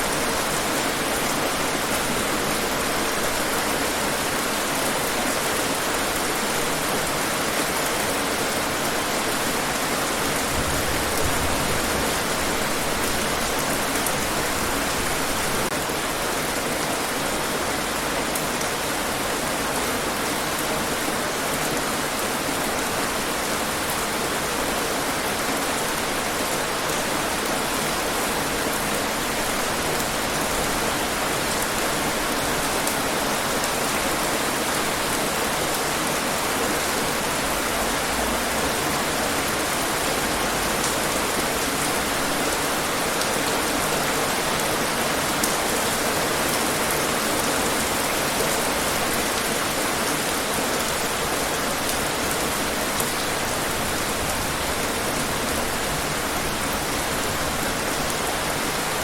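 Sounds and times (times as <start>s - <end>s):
rain falling on hard surfaces: 0.0s - 59.0s.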